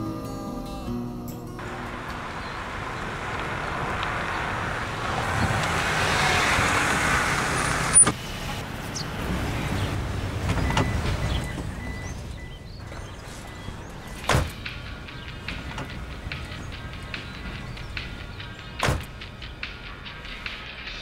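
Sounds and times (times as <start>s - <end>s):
car passing: 1.6s - 21.0s
quiet traffic noise: 1.6s - 21.0s.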